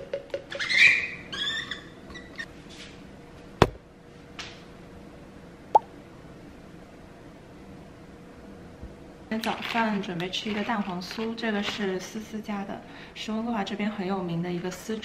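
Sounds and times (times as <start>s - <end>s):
faint steady hum: 2.0s - 15.0s.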